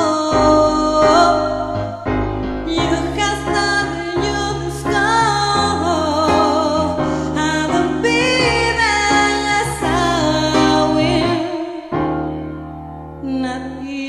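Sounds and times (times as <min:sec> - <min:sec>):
person singing with vibrato: 0:00.0 - 0:12.2, 0:13.2 - 0:14.0
piano accompaniment: 0:00.0 - 0:14.0.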